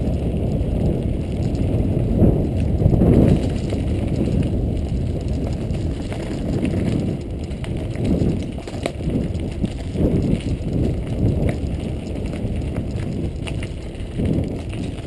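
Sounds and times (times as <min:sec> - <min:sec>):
bike clicking and rattling: 0:00.0 - 0:15.0
tyre and wind rumble: 0:00.0 - 0:15.0.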